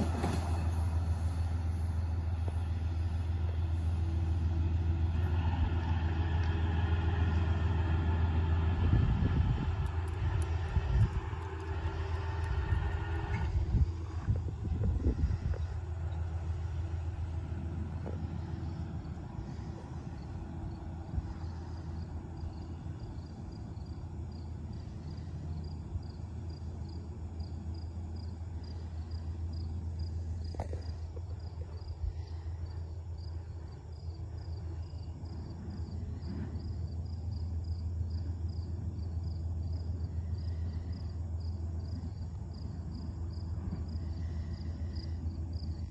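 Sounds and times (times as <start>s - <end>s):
crickets chirping: 0.0s - 45.9s
steady low rumble: 0.0s - 45.9s.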